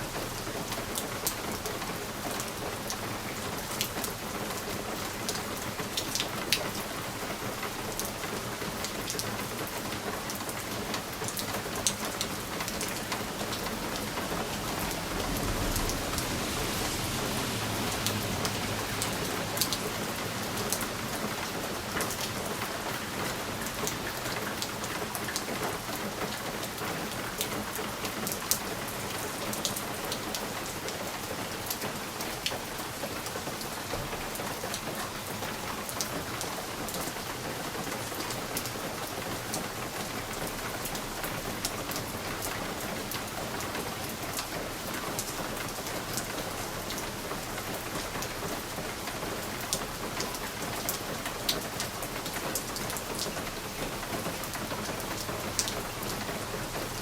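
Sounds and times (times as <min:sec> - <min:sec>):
rain hissing on window: 0:00.0 - 0:57.0.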